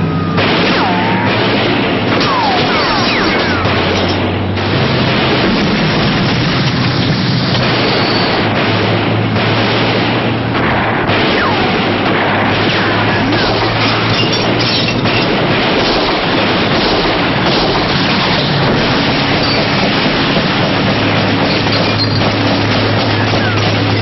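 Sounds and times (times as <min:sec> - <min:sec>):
booming and crashing effects: 0:00.0 - 0:24.0.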